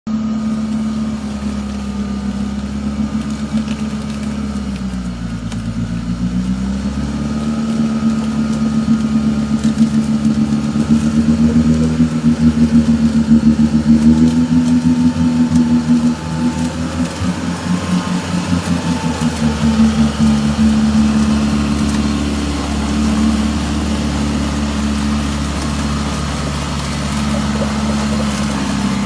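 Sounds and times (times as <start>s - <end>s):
engine running with pulsing beat: 0.1s - 29.0s.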